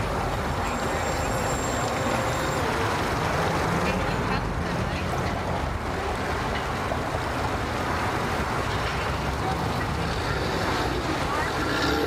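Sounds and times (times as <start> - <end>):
water churning: 0.0 - 12.0.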